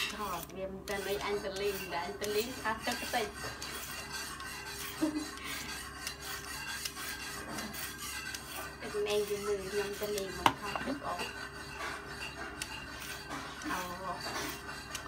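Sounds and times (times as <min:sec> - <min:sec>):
peeler scraping carrot: 0:00.0 - 0:15.0.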